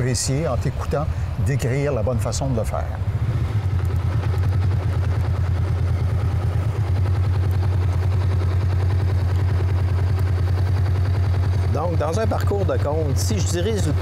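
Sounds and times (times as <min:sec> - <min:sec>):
motorcycle engine at low revs: 0:02.0 - 0:14.0.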